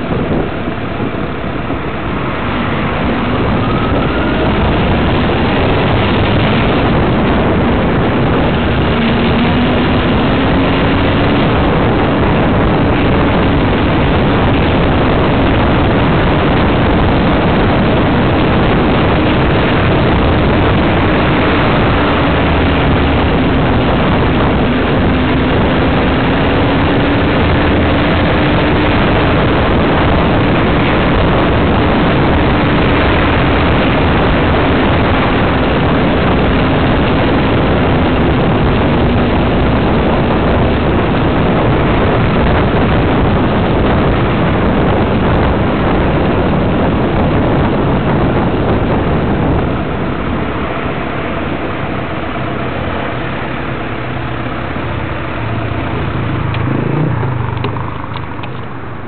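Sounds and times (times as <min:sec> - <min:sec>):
car driving noise: 0:00.0 - 0:59.0
faint engine drone: 0:00.0 - 0:59.0.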